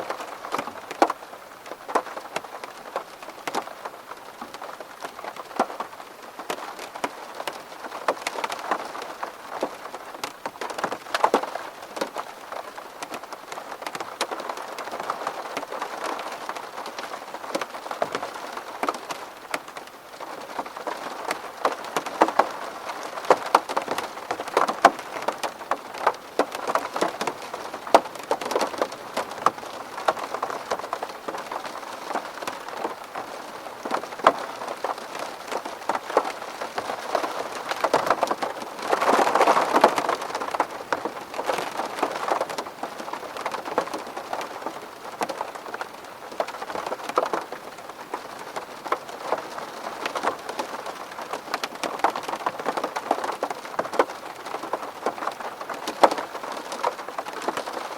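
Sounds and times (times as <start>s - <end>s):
rain pattering on window: 0.0s - 57.9s.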